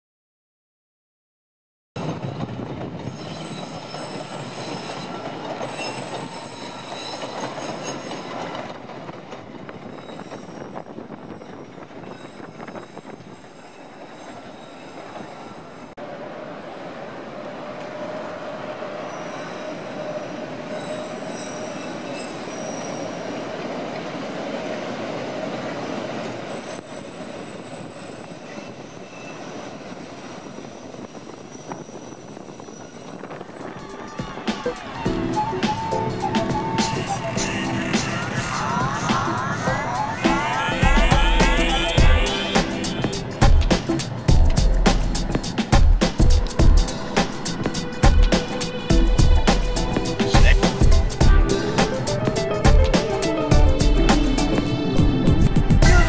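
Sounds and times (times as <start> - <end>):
steel wheels squealing on rails: 2.0 - 44.3, 44.9 - 56.0
elevated train running: 2.0 - 56.0.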